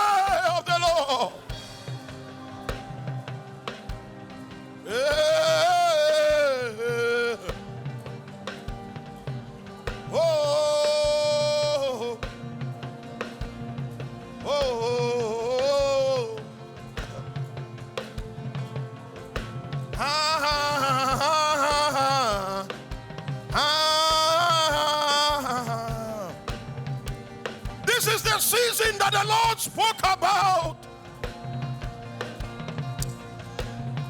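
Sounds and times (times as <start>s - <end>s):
background music with held melody: 0.0s - 34.0s.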